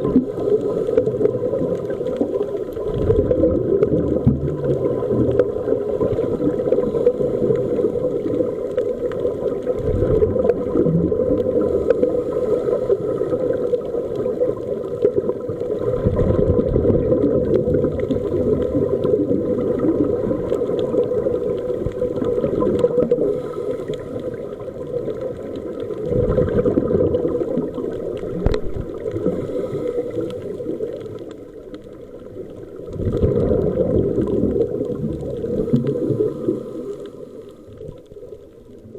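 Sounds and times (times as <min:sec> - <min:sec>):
muffled underwater hiss: 0:00.0 - 0:38.9
scuba exhale bubbles gurgling: 0:00.0 - 0:38.9.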